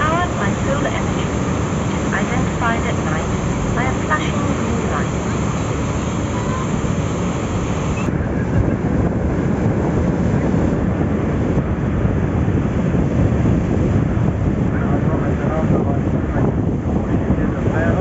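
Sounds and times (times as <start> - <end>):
boat engine running: 0.0 - 18.0
wind buffeting microphone: 0.0 - 18.0.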